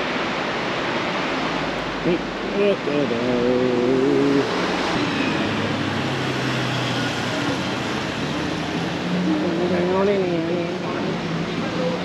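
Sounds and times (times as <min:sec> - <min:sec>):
vehicles passing on street: 0:00.0 - 0:12.0.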